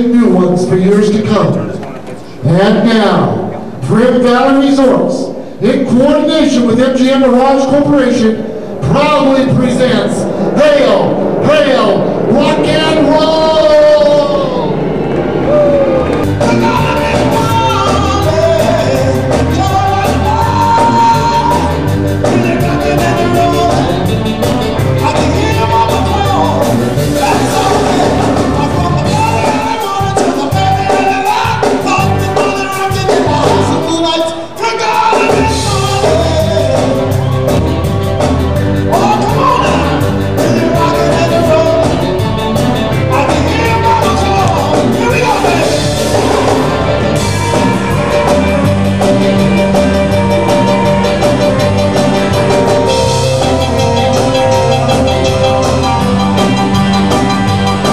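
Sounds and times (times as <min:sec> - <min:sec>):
rock and roll song: 0:02.5 - 0:57.9.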